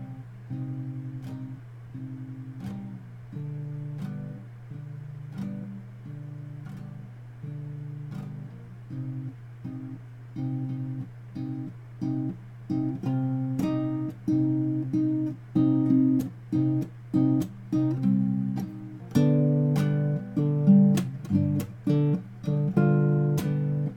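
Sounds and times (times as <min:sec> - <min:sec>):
guitar strummed chords: 0:00.0 - 0:23.9.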